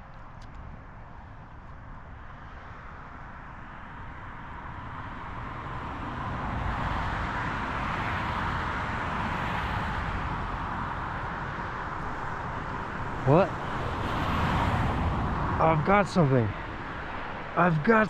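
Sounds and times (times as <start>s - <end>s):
vehicle passing tyre and engine noise: 0.0s - 18.0s.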